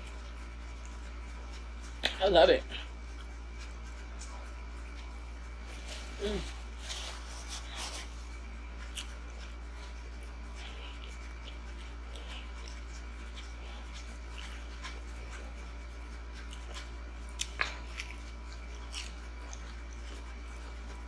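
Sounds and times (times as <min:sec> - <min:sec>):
chewing and crunching: 0:00.0 - 0:21.0
steady low hum: 0:00.0 - 0:21.0.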